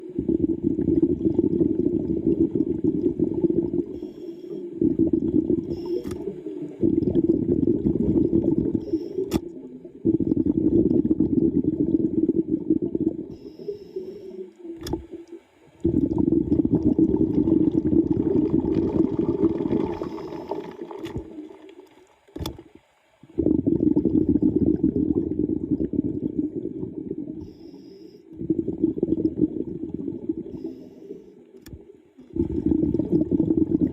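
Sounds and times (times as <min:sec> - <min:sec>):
underwater breath bubbling: 0:00.0 - 0:22.1, 0:23.2 - 0:33.9.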